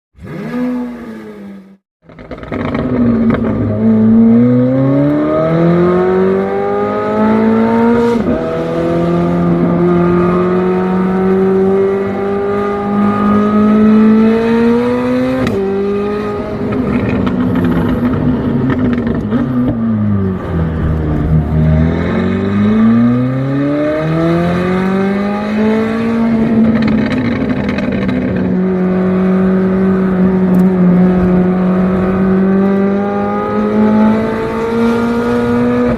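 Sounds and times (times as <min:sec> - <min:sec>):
car exhaust revving through gears: 0:00.2 - 0:35.9.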